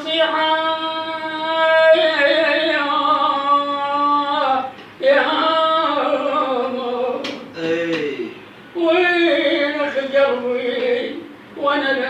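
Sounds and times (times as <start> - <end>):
unaccompanied person singing: 0.0 - 12.0.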